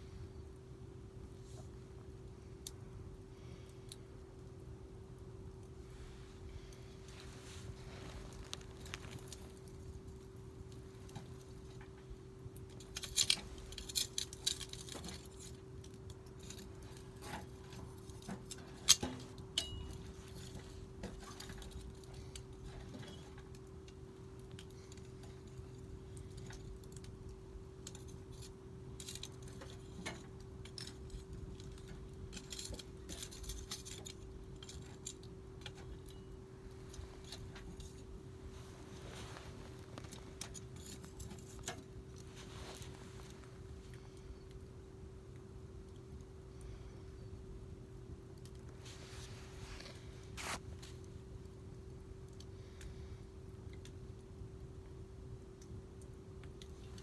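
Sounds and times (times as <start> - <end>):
wood fire crackling: 0.1 - 57.0.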